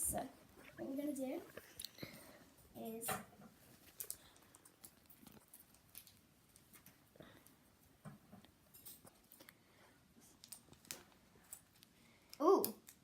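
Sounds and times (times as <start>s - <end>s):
faint handling clicks and rustles: 0.2s - 13.0s.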